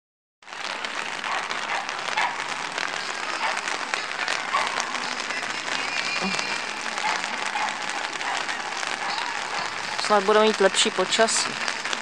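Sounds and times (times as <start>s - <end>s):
rain pattering: 0.4s - 12.0s.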